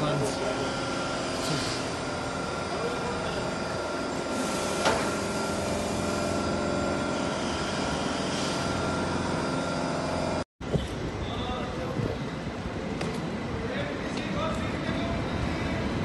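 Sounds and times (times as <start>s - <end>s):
train cooling fans droning: 0.0s - 16.0s.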